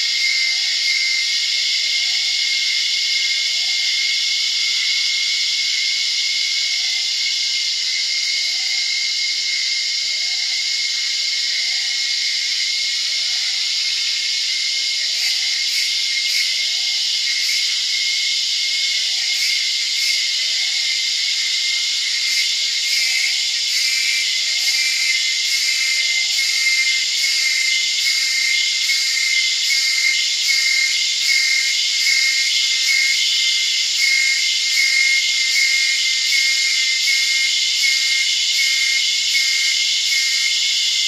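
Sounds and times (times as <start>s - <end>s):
cicada chorus: 0.0s - 41.0s.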